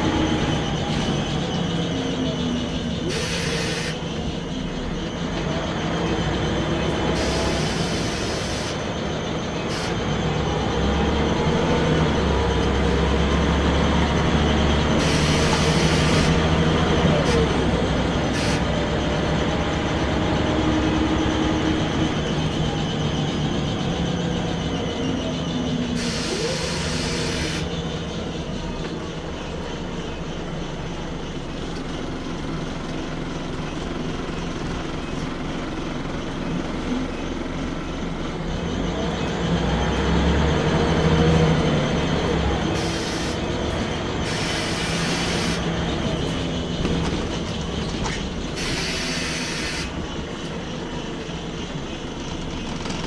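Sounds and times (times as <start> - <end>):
bus engine running: 0.0 - 53.0
road noise: 0.0 - 53.0.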